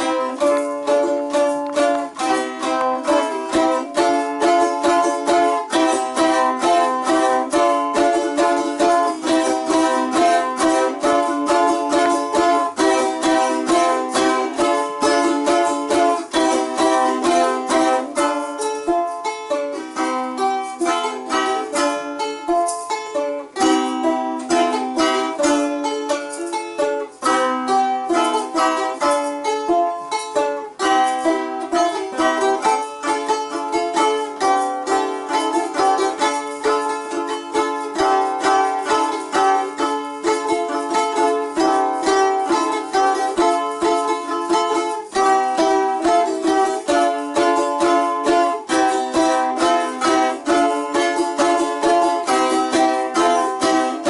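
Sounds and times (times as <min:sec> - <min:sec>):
balalaikas strumming folk tune: 0:00.0 - 0:54.0.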